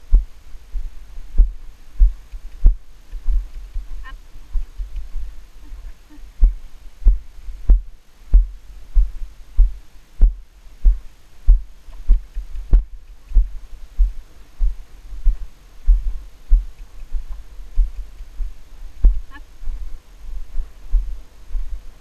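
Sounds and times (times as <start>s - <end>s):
horse hooves thudding on sand: 0.1s - 21.9s.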